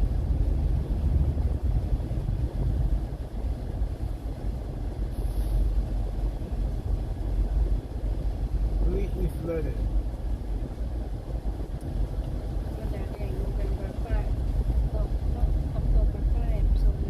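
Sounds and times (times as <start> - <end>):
car driving on flooded road: 0.0 - 17.0.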